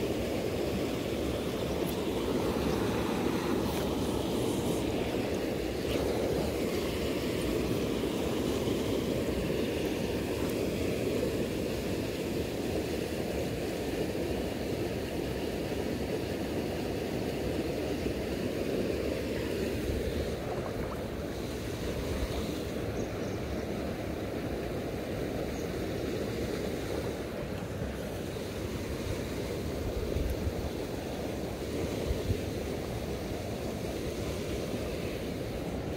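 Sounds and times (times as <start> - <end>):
river water rushing over stones: 0.0 - 35.9.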